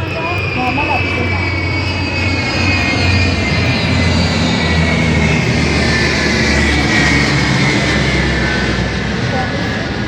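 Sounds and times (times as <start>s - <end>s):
deep hum: 0.0s - 9.2s
military aircraft flying past: 0.0s - 10.0s.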